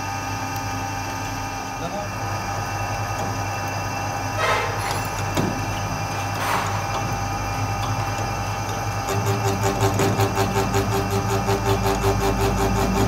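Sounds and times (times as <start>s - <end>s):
metal lathe motor hum: 0.0s - 13.0s.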